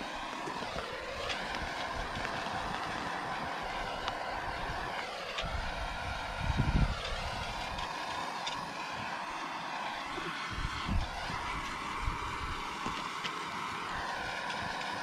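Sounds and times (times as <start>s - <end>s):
propane torch rushing: 0.0s - 15.0s.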